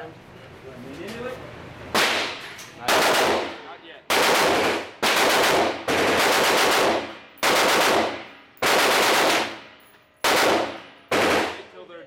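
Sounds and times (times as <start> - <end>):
gunshots with echoing ring-out: 2.0 - 11.8.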